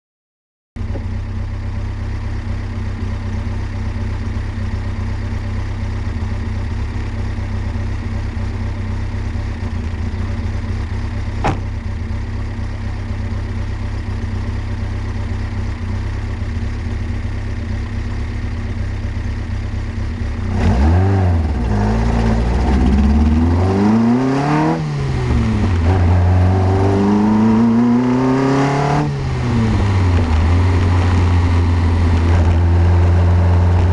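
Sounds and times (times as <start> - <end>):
car engine idling and revving: 0.8 - 33.9.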